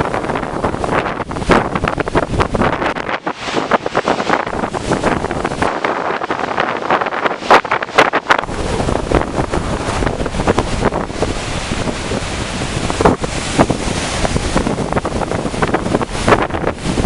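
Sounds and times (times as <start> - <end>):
storm wind buffeting microphone: 0.0 - 17.0
waves breaking on beach: 0.0 - 17.0.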